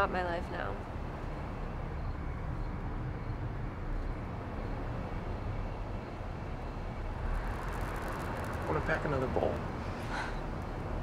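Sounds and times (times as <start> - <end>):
city background rumble and hiss: 0.0 - 11.0.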